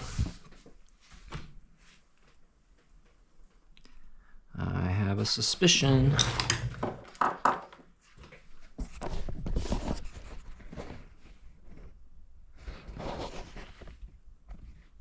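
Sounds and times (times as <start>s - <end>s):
rustling and handling noise: 0.0s - 4.1s, 5.7s - 15.0s.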